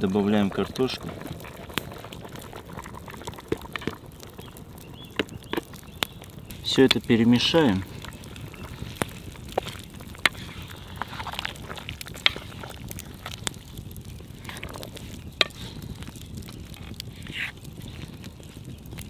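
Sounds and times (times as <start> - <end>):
fire crackling and sizzling: 0.0 - 19.0.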